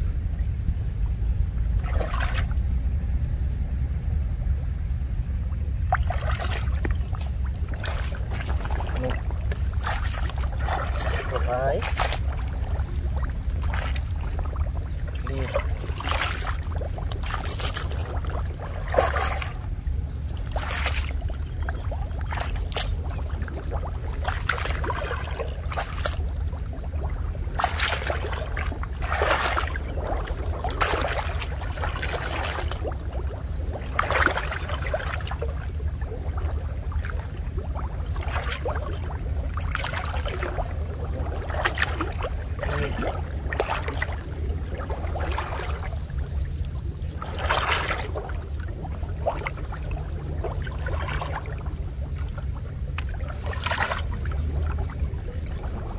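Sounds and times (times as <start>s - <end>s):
steady low rumble: 0.0s - 55.9s
water splashing and dripping: 0.3s - 2.7s, 5.4s - 55.9s.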